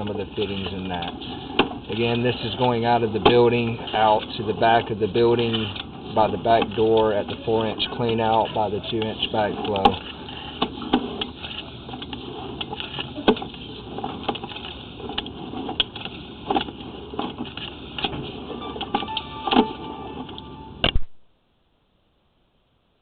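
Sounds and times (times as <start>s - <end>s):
camera cable mechanical rumble: 0.0s - 18.6s.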